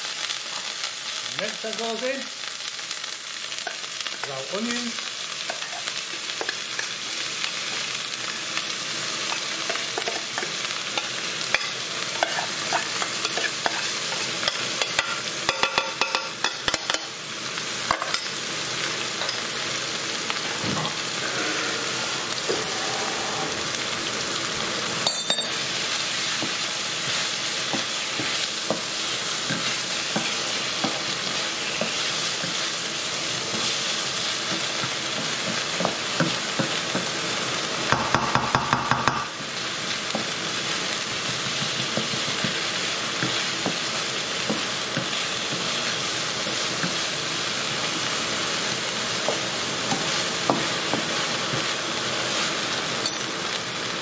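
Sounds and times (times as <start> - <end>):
onion sizzling in a frying pan: 0.0 - 54.0.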